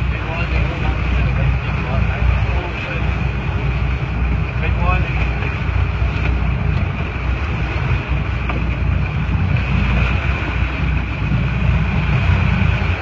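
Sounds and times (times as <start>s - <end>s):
boat engine rumbling: 0.0s - 13.0s
wind noise on microphone: 0.0s - 13.0s.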